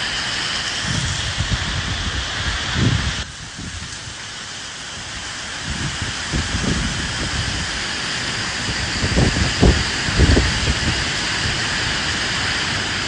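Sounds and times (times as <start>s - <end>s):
steady rain: 0.0s - 13.0s
wind gusts: 0.0s - 13.0s.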